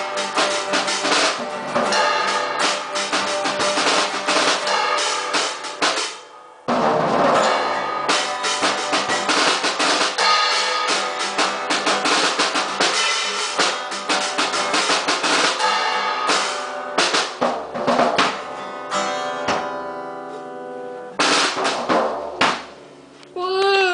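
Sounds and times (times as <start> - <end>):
drum kit playing: 0.0 - 20.0, 21.1 - 23.1
strummed acoustic guitar: 0.0 - 23.1.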